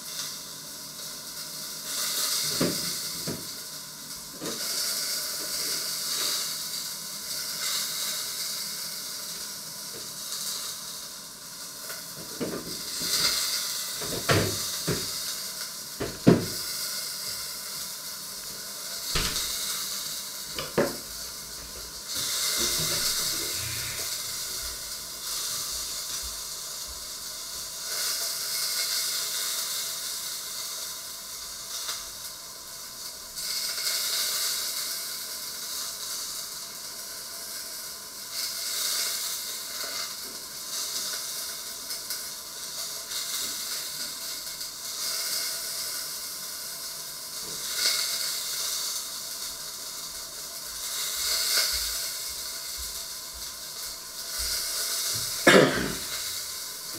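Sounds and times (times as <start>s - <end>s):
food frying in a pan: 0.0s - 56.9s.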